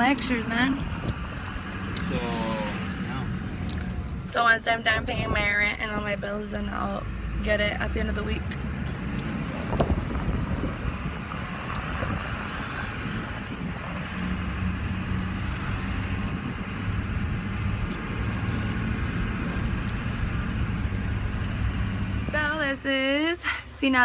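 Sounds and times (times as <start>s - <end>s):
truck engine hum: 0.0s - 24.0s.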